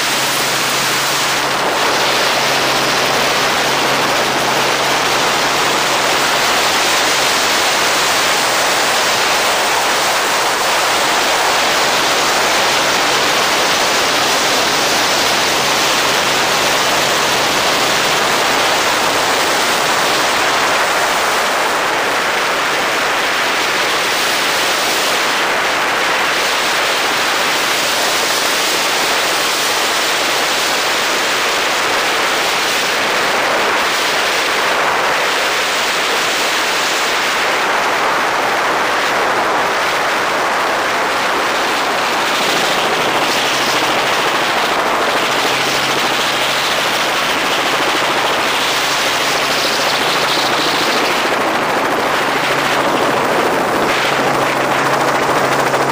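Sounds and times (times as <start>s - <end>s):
helicopter rotor and wind rush: 0.0s - 55.9s.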